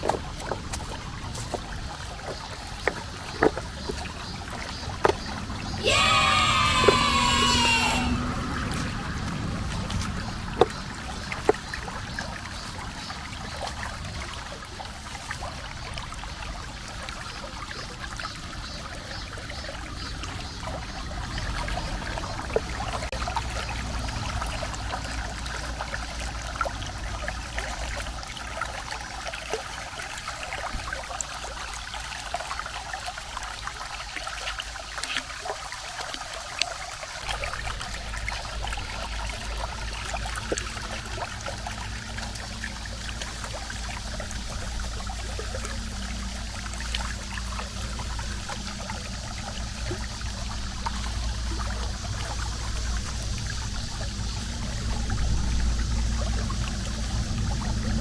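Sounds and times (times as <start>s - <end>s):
creek water babbling over stones: 0.0s - 58.0s.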